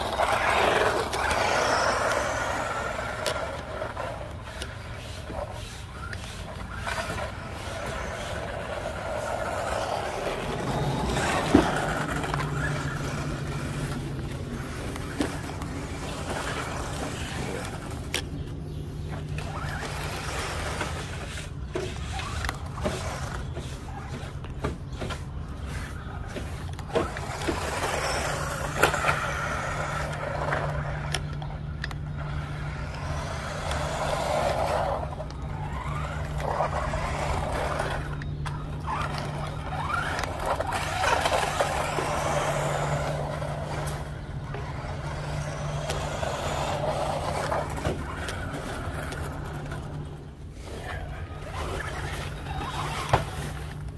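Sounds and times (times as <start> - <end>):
toy truck motor whine: 0.0 - 18.2, 26.8 - 53.9.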